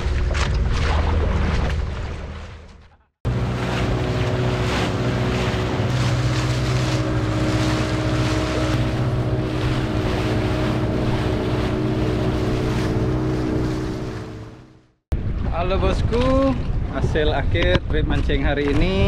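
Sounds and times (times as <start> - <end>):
motorboat engine humming: 0.0 - 15.5.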